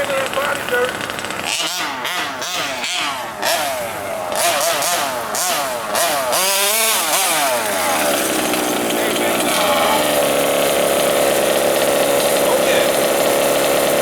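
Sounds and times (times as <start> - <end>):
small two-stroke engine revving: 0.0 - 14.0.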